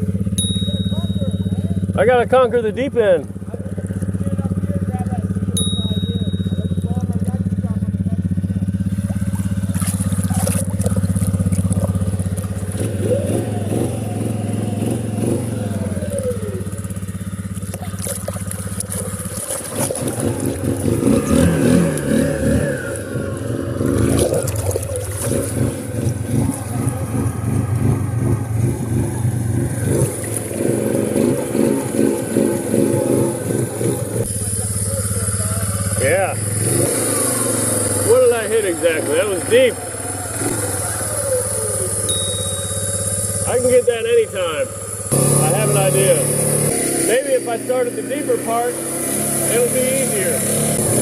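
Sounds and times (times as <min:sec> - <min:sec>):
quad bike engine idling and revving: 0:00.0 - 0:51.0.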